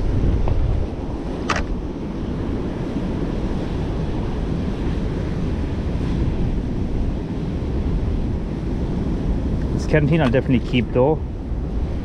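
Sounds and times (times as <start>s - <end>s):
ocean surf on shore: 0.0s - 12.0s
wind buffeting microphone: 0.0s - 12.0s.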